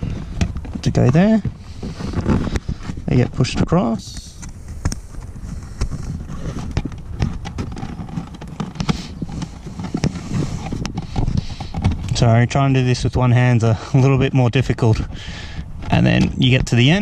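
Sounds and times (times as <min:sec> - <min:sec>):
rustling handling noise: 0:00.0 - 0:17.0.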